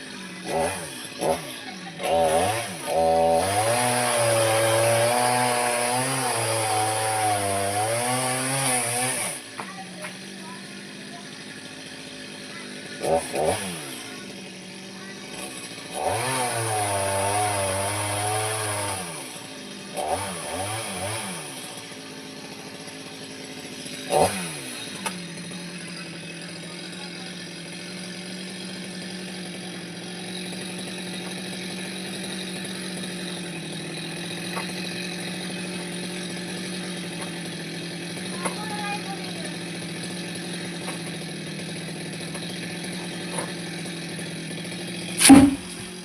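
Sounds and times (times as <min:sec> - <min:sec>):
chainsaw engine revving: 0:00.0 - 0:46.0.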